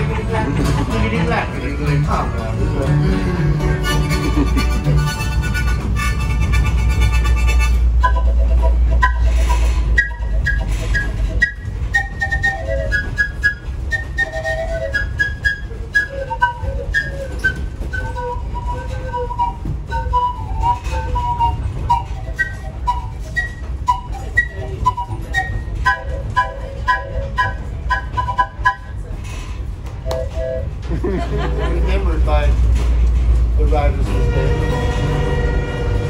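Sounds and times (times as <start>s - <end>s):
harmonica melody: 0.0s - 29.0s, 34.1s - 36.0s
train rumbling: 0.0s - 36.0s.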